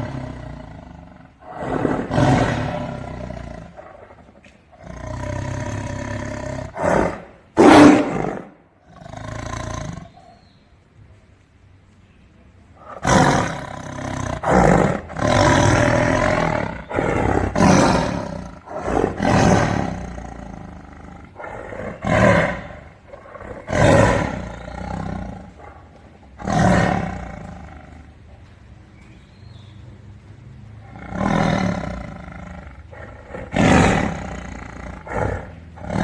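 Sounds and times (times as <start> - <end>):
tiger roaring: 0.0 - 10.2, 12.8 - 28.2, 30.7 - 36.0.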